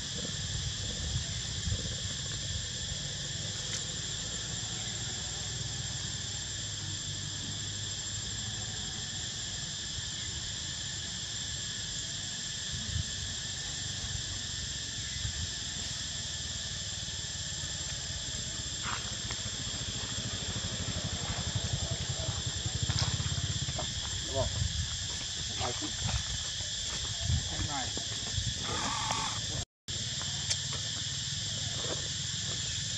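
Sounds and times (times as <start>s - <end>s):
insect drone: 0.0s - 32.9s.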